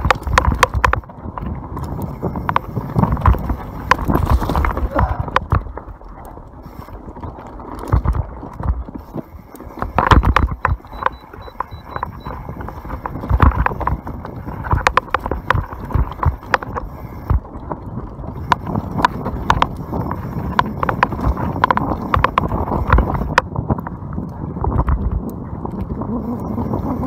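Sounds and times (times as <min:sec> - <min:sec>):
bike clacking and rattling: 0:00.0 - 0:27.0
bike tyres rolling on dirt: 0:00.0 - 0:27.0.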